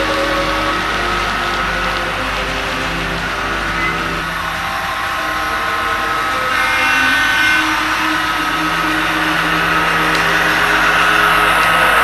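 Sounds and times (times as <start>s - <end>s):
model locomotive diesel engine sound: 0.0s - 12.0s
model train running on track: 0.0s - 12.0s.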